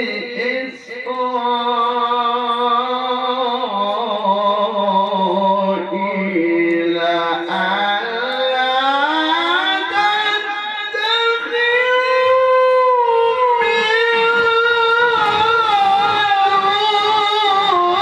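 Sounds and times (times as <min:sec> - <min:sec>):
man reciting melismatic chant: 0:00.0 - 0:18.0.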